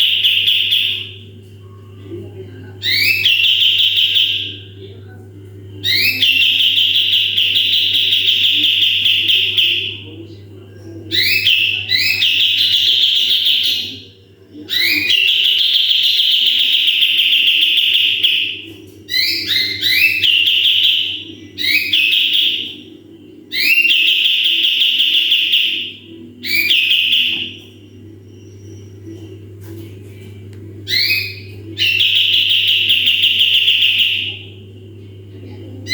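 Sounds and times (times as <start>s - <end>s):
bird singing buzzy phrases: 0.0s - 35.9s
steady low hum: 0.0s - 35.9s.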